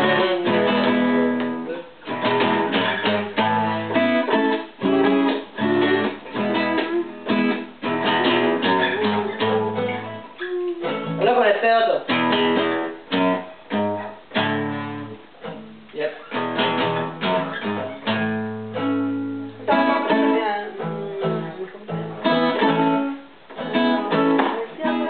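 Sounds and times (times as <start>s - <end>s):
acoustic guitar playing: 0.0s - 25.0s.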